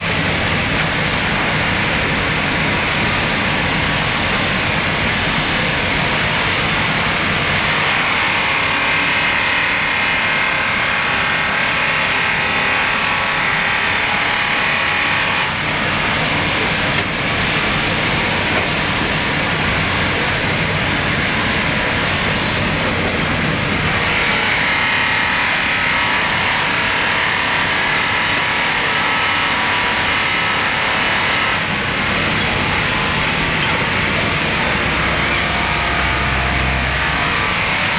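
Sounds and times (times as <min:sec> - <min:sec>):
polishing machine whirring: 0:00.2 - 0:37.9.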